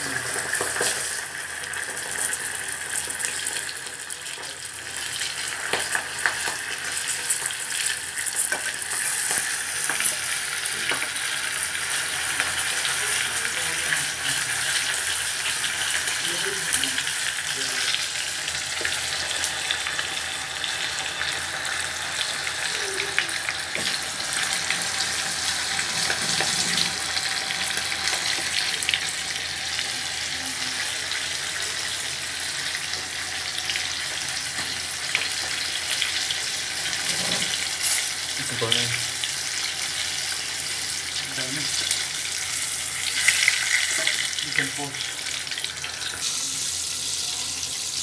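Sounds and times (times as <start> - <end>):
chicken deep-frying in hot oil: 0.0 - 48.0.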